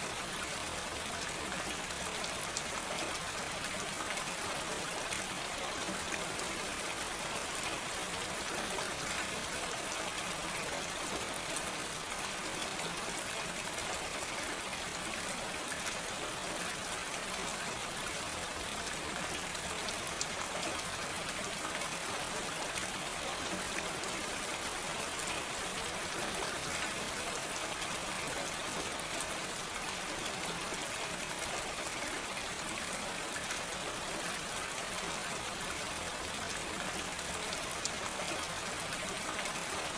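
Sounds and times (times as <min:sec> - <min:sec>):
steady gentle rain: 0:00.0 - 0:39.9.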